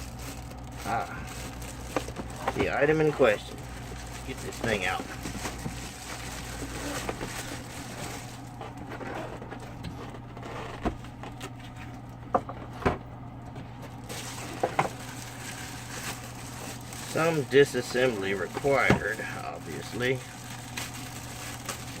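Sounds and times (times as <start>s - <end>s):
packaging rustling: 0.0s - 11.8s, 14.0s - 22.0s.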